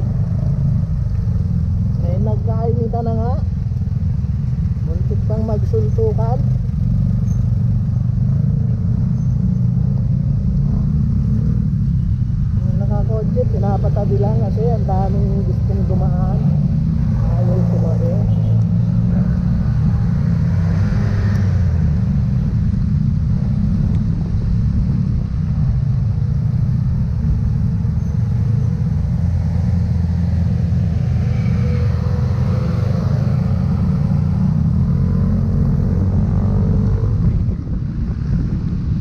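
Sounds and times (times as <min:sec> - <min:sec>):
road noise on wet pavement: 0:00.0 - 0:39.0.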